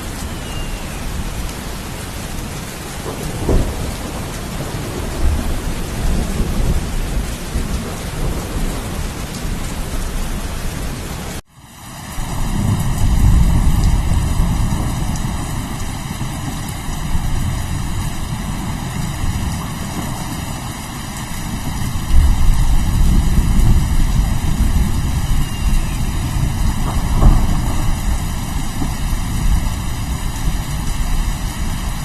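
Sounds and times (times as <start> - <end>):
thunder rumbling: 0.0 - 11.2, 12.1 - 32.0
steady rain: 0.0 - 32.0.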